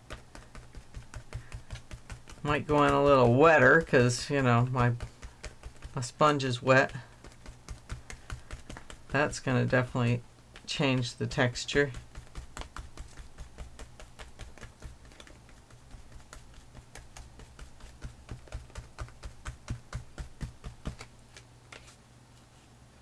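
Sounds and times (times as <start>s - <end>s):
sponge tapping on paper: 0.0s - 6.2s, 6.8s - 21.1s.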